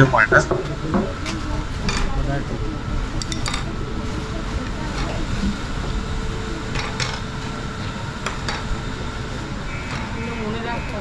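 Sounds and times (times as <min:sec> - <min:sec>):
indistinct voices: 0:00.0 - 0:11.0.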